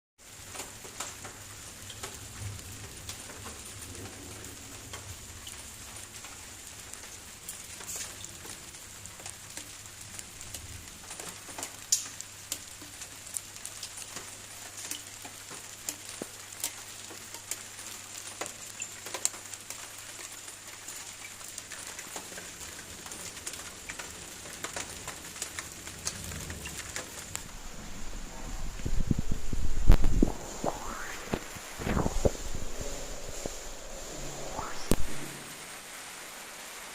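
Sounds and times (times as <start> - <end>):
raindrop ticks: 0.2 - 35.3
steady rain hiss: 0.2 - 36.9.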